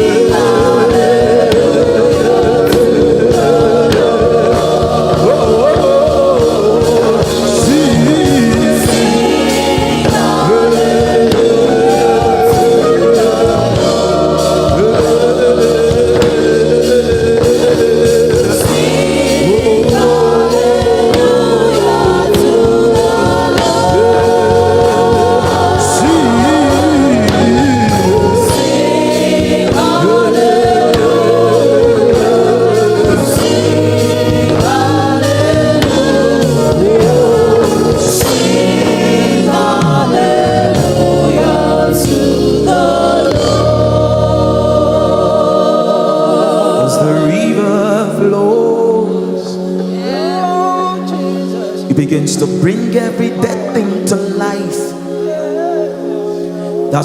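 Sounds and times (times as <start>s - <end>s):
gospel singing: 0.0s - 57.0s
instrumental backing: 0.0s - 57.0s.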